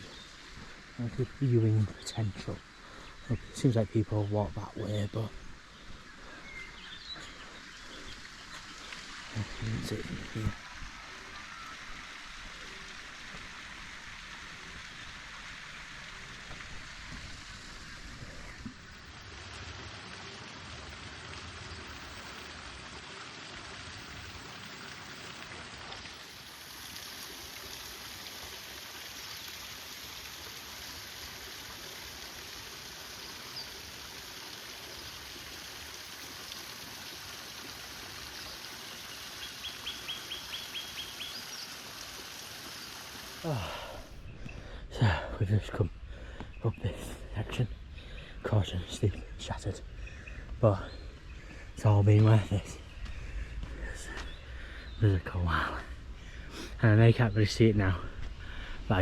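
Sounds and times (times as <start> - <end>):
running water hissing: 0.0 - 59.0.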